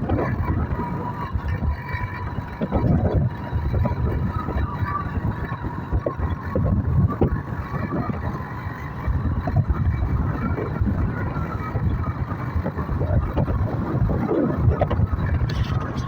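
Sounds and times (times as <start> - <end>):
faint steady whine: 0.0 - 16.0
motorcycle engine running: 0.0 - 16.0.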